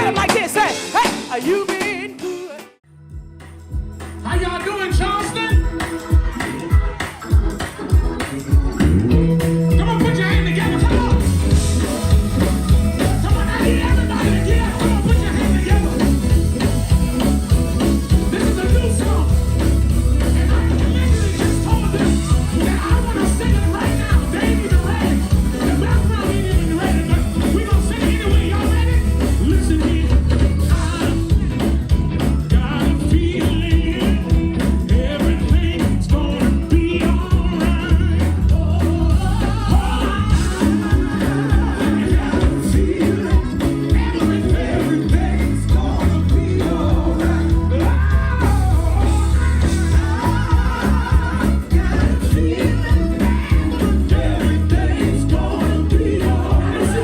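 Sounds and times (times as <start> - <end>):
live band playing: 0.0 - 57.0
people singing: 5.3 - 57.0
heavy bass: 8.3 - 57.0.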